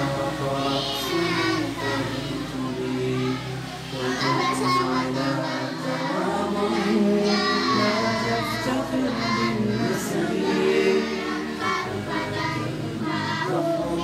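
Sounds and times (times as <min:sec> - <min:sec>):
children reciting in melodic chant: 0:00.0 - 0:14.0.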